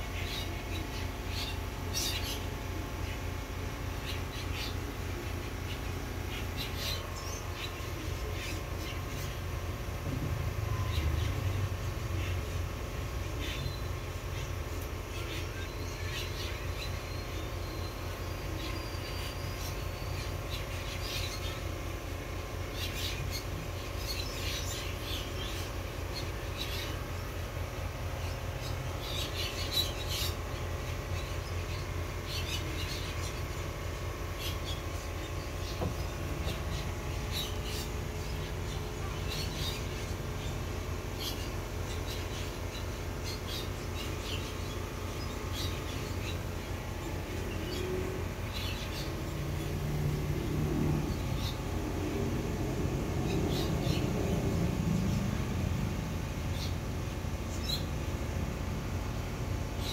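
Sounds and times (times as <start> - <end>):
pulsing mechanical hum: 0.0 - 59.9
small birds chirping: 0.0 - 59.9.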